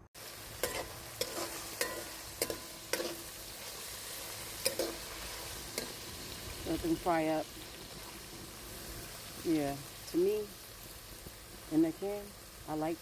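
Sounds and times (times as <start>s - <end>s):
apples sizzling in oil: 0.0s - 13.0s.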